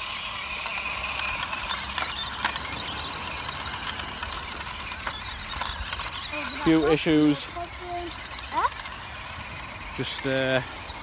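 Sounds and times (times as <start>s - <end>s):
toy truck motor whining: 0.0s - 11.0s.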